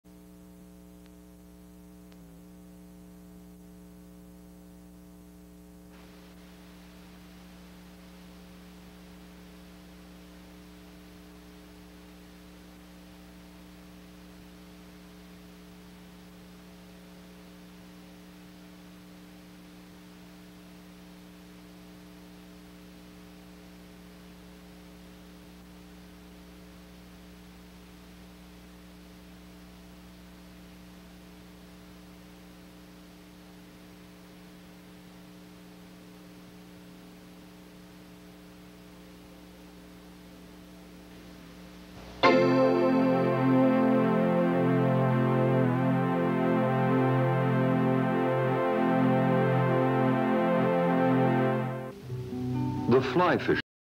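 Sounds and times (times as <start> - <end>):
tape hiss: 0.0 - 53.6
electrical mains hum: 0.1 - 53.6.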